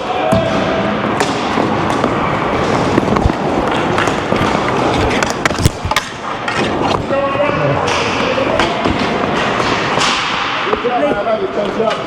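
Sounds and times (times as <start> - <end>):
rush of movement noise: 1.0 - 10.7
sticks and ball clacking on court: 1.0 - 12.0.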